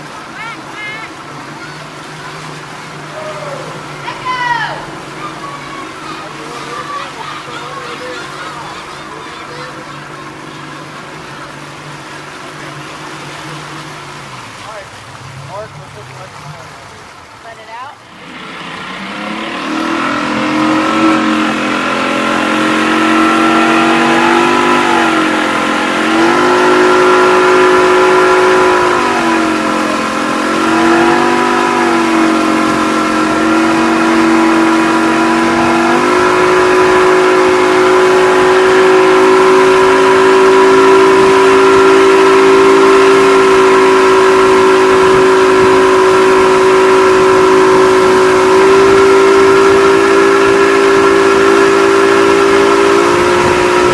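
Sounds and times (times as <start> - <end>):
motorboat engine: 0.0 - 53.9.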